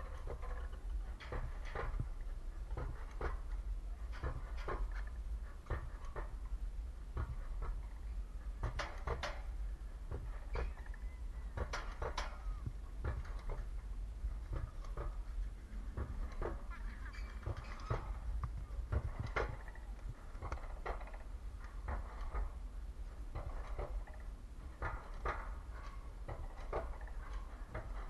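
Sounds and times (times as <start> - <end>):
sled rumbling on rail track: 0.0 - 28.0
track clacks and rattles: 0.0 - 28.0.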